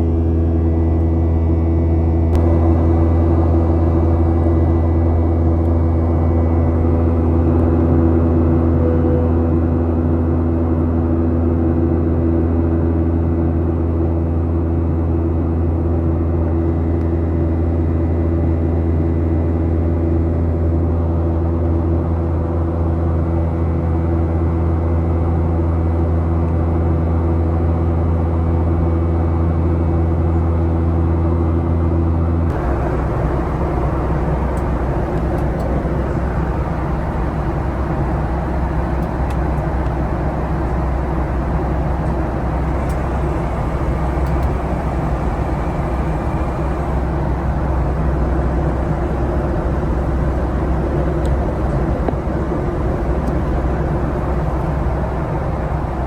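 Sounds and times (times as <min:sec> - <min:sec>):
airliner cabin hum: 0:00.0 - 0:21.9, 0:32.5 - 0:56.0.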